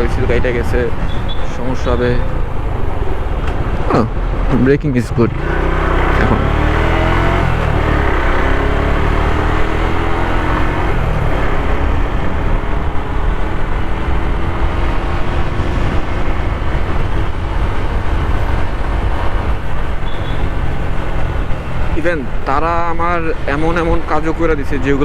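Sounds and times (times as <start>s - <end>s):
motorcycle engine accelerating: 0.0s - 25.0s
wind and road noise: 0.0s - 25.0s.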